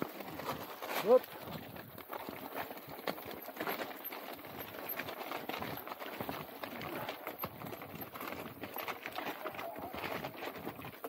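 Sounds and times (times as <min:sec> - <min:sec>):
bike rattling and clicking: 0:00.0 - 0:11.0
tyres crunching over stones: 0:00.0 - 0:11.0.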